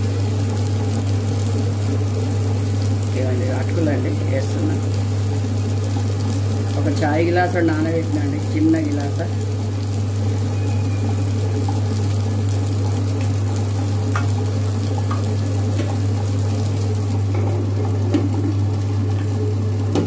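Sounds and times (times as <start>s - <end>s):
wet grinder humming: 0.0s - 20.0s.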